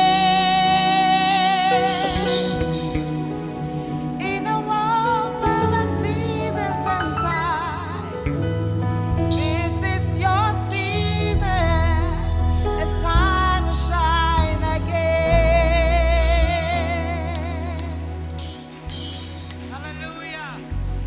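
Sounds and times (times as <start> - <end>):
shaken percussion rattle: 0.0 - 19.8
gospel singing: 0.0 - 21.0
keyboard and bass chords: 0.0 - 21.0.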